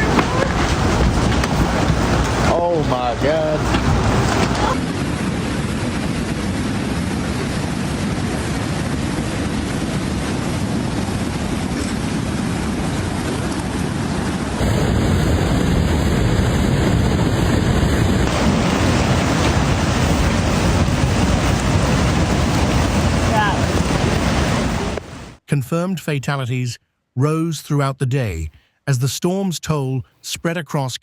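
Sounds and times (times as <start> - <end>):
floodwater rushing: 0.0 - 25.4
wind buffeting microphone: 0.0 - 25.4.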